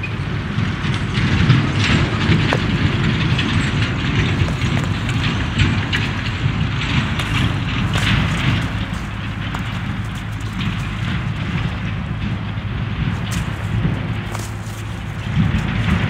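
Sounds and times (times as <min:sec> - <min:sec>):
wind buffeting microphone: 0:00.0 - 0:16.0
puppy paws on gravel: 0:00.8 - 0:16.0
footsteps on frosty gravel: 0:01.2 - 0:16.0.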